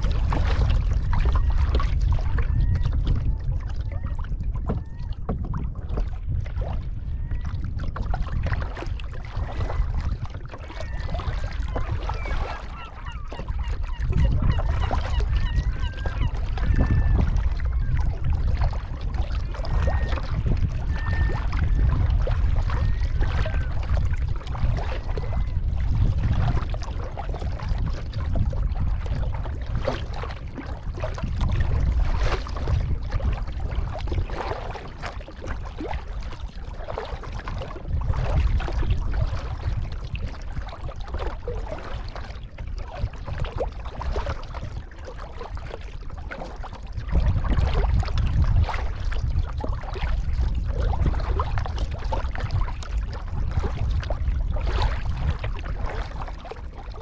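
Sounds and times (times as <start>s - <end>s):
paddle splashes: 0.0s - 57.0s
wind rumble on microphone: 0.0s - 57.0s.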